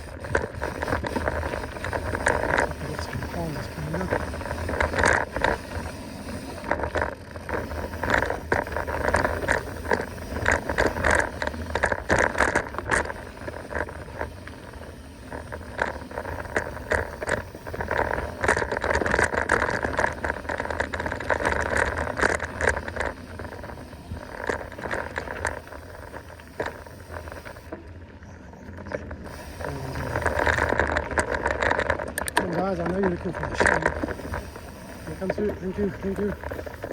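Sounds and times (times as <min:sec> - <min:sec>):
bike clattering over bumps: 0:00.0 - 0:28.0, 0:28.6 - 0:36.9
bike tyres rolling over dirt: 0:00.0 - 0:36.9.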